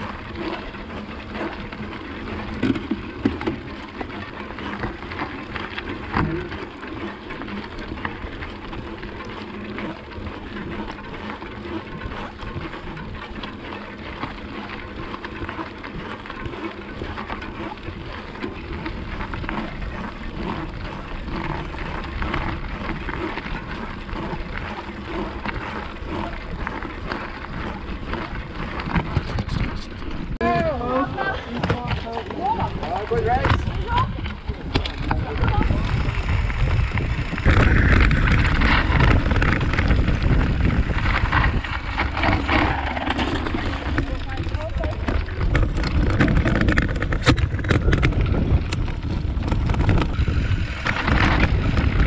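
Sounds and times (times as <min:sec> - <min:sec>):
bike tyres crunching on gravel: 0:00.0 - 0:52.0
small clicks and rattles: 0:00.0 - 0:52.0.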